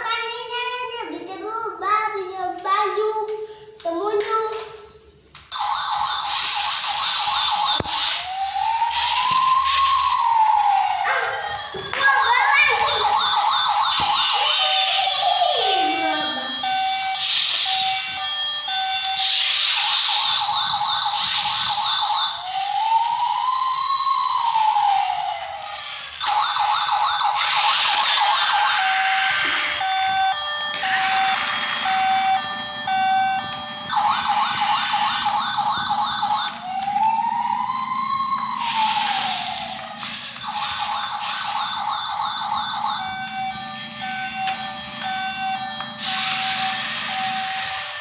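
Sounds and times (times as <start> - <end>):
toy police car siren beeps: 5.5 - 48.0
warbling siren trills: 5.6 - 48.0
rising and falling siren whoop: 6.2 - 12.0, 12.6 - 48.0.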